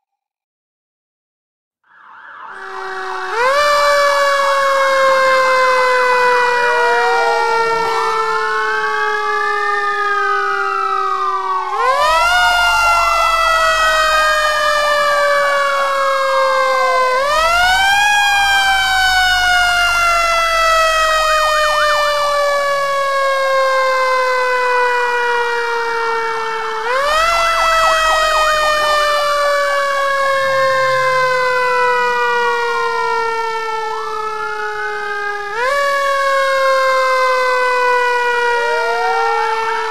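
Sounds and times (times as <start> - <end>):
fire engine siren wailing: 1.8 - 39.9
siren in slow arcs: 1.8 - 39.9
rapid siren warble: 1.9 - 39.9.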